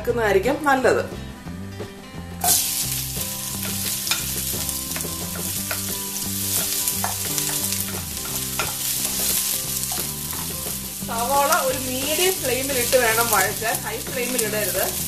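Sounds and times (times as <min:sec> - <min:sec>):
onions sizzling in oil: 0:02.4 - 0:15.0
wooden spatula stirring: 0:02.5 - 0:15.0.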